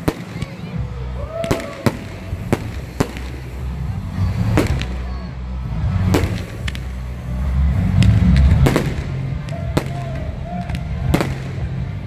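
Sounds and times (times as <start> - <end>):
firework bangs: 0.0 - 12.0
low rumble: 0.7 - 12.0.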